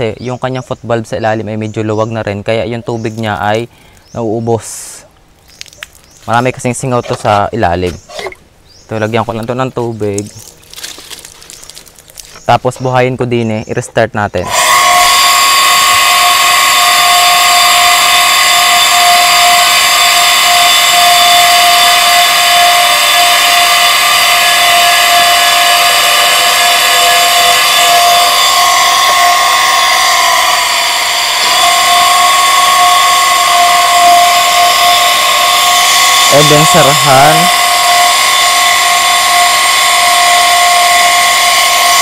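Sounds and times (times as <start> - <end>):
electric water pump whining: 4.6 - 13.0, 14.4 - 42.0.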